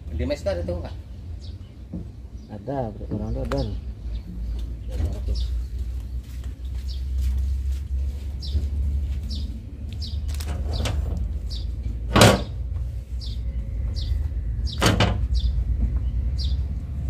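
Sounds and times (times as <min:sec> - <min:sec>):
bird chirping: 0:00.0 - 0:17.0
steady low hum: 0:00.0 - 0:17.0.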